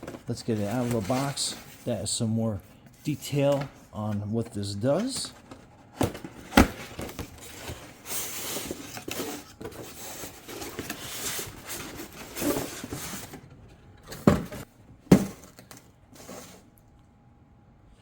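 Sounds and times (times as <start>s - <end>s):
cardboard and paper rustling: 0.0s - 16.7s.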